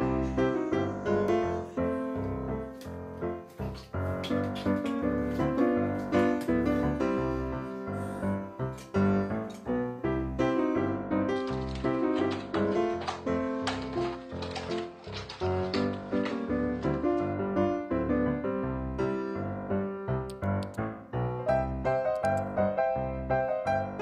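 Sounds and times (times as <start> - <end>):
keyboard instrumental music: 0.0 - 24.0.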